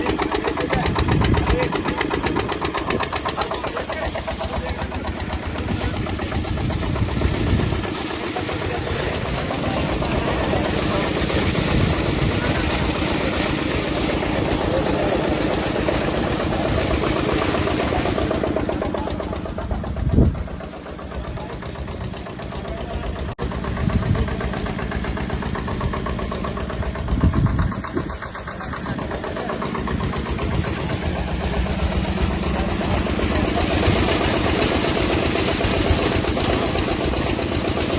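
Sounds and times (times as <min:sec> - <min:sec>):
diesel water pump knocking: 0:00.0 - 0:37.9.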